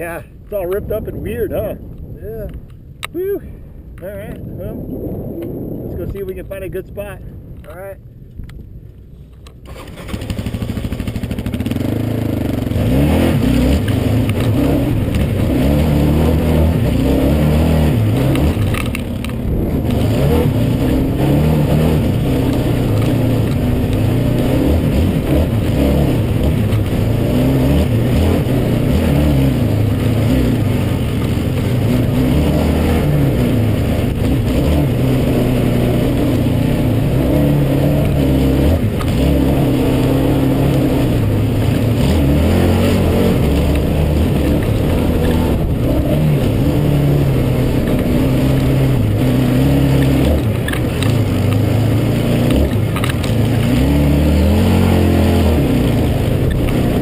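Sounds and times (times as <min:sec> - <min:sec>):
quad bike engine revving: 0:09.6 - 0:57.0.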